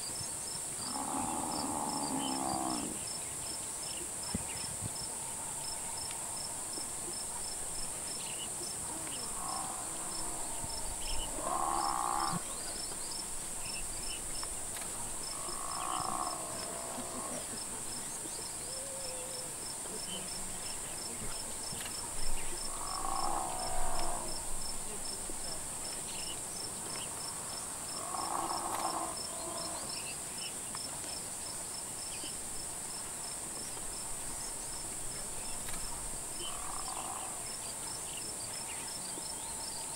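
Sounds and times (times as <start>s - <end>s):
crickets buzzing: 0.0s - 39.9s.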